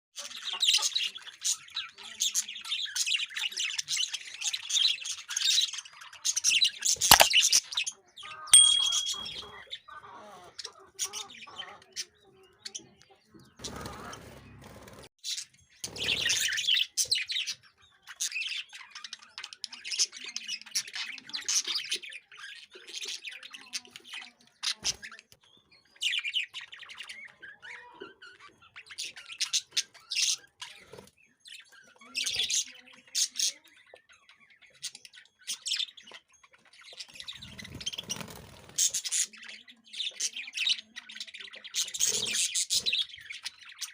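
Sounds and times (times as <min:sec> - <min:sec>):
lovebirds chattering: 0:00.2 - 0:43.9.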